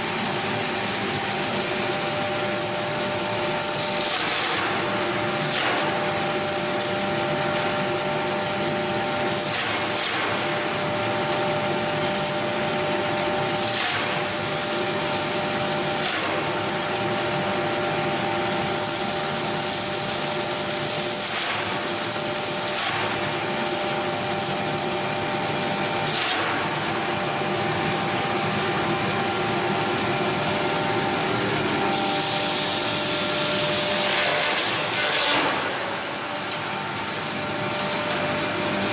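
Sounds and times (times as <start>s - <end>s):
wood-processing machine running: 0.0s - 38.9s.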